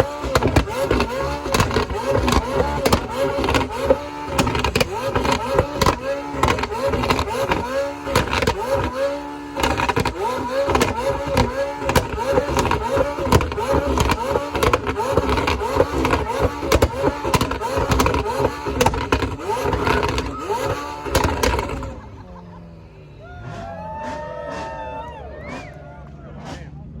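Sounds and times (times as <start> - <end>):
sharp exhaust pops: 0.0 - 22.4
car engine revving: 0.0 - 27.0.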